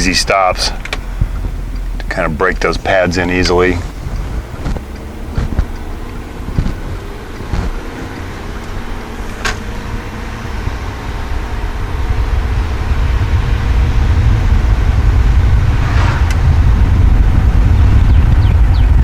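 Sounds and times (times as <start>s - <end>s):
diesel engine accelerating: 0.0s - 19.0s
road noise: 0.0s - 19.0s.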